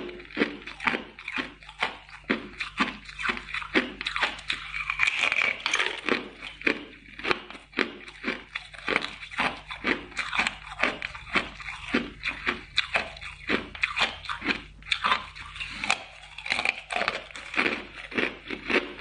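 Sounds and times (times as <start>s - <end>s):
ice crunched between teeth: 0.0s - 19.0s.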